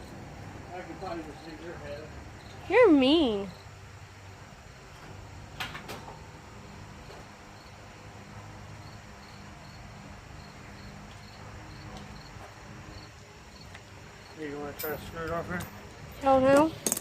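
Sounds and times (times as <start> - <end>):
crickets chirping: 0.0 - 16.8
low background hum: 0.0 - 17.0.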